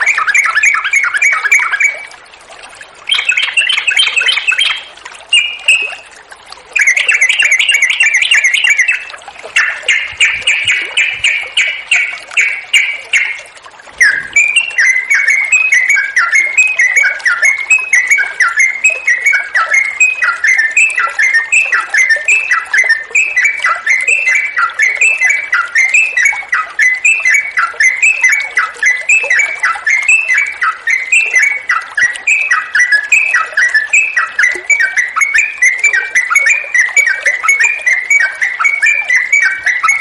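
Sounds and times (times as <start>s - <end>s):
bulbul chattering song: 0.0s - 2.2s, 3.0s - 40.0s.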